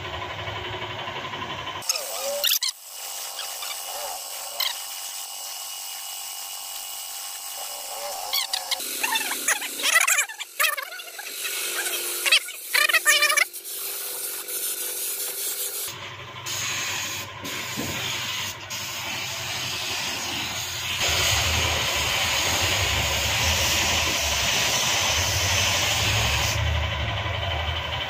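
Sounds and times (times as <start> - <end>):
air compressor motor humming: 0.0 - 28.0
spray gun hissing: 1.8 - 15.9, 16.5 - 26.6.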